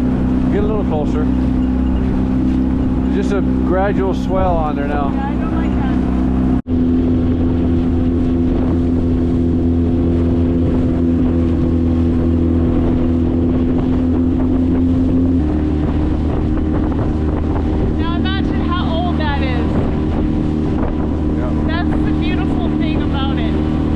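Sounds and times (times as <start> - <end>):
small boat motor running: 0.0 - 23.9.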